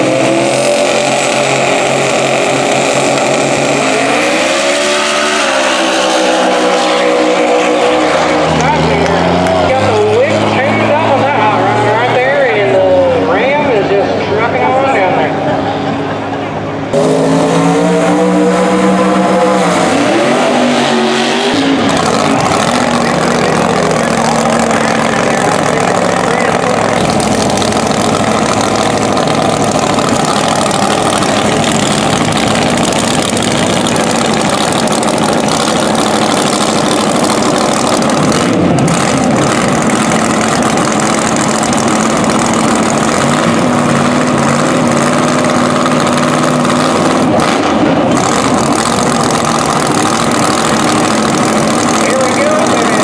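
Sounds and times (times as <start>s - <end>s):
car engines idling: 0.0s - 53.0s.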